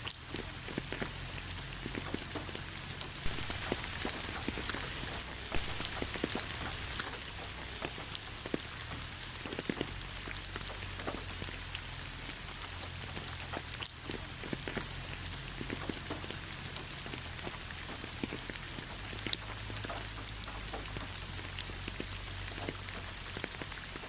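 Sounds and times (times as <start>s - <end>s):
raindrops ticking on hard surface: 0.0s - 24.0s
steady rain hiss: 0.0s - 24.0s.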